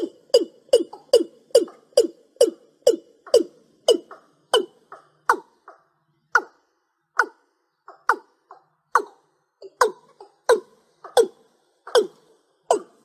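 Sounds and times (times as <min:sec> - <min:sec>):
bird calling deep notes: 0:00.0 - 0:13.0.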